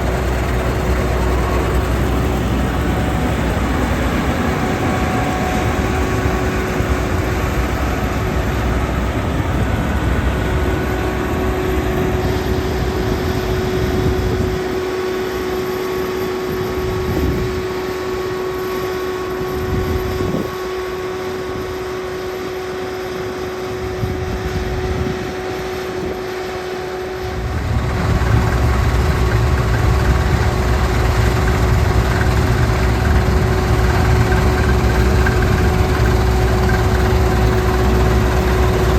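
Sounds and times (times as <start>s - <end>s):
combine harvester running: 0.0s - 38.9s
constant machine whine: 0.0s - 38.9s.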